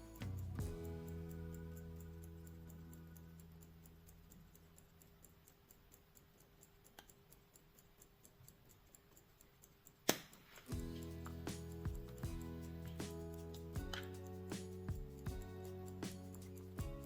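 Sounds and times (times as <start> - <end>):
pocket watch ticking: 0.0 - 17.0.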